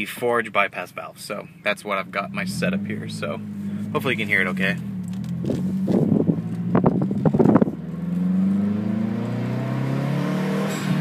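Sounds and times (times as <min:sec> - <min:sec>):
car engine accelerating: 0:01.8 - 0:11.0.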